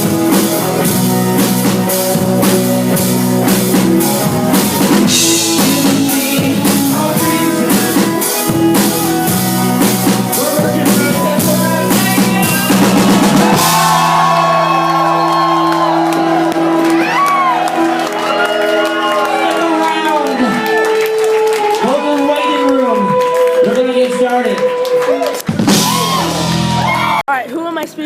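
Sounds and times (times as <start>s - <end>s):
drum kit beat: 0.0s - 21.8s, 25.4s - 27.2s
live rock band playing: 0.0s - 27.2s.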